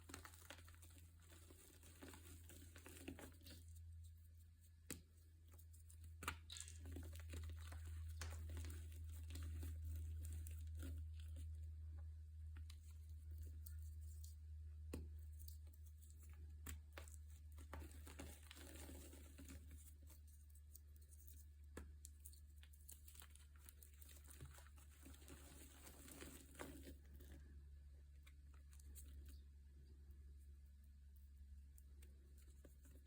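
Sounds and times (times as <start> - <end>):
faint crinkling: 0.0 - 33.0.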